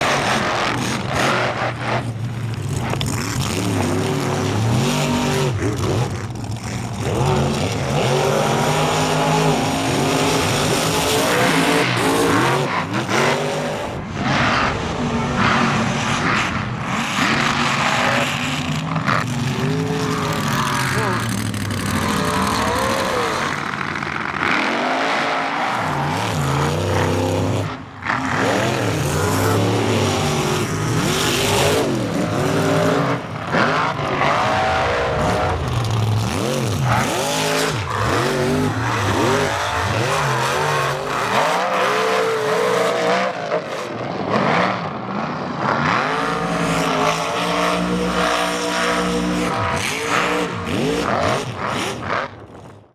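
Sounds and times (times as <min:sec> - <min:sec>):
truck engines revving: 0:00.0 - 0:52.8.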